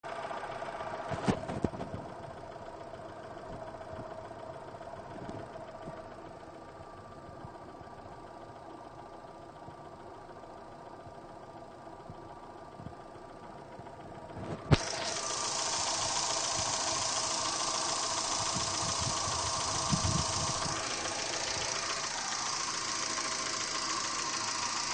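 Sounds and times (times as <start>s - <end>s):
car engine idling with knock: 0.1s - 24.9s.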